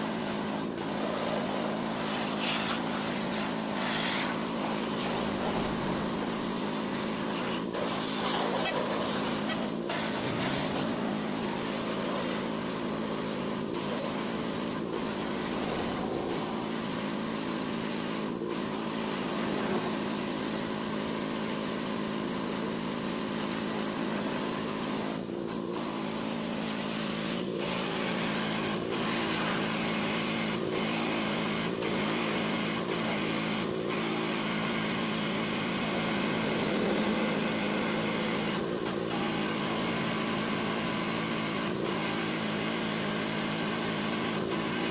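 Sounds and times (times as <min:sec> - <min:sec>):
pressure washer running: 0:00.0 - 0:44.9
water jet spraying metal: 0:00.0 - 0:44.9.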